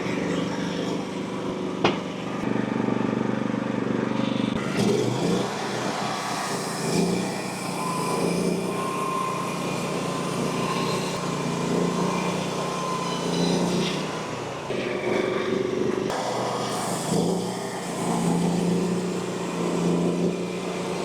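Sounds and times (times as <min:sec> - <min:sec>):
small engine with high whine: 0:00.0 - 0:21.0.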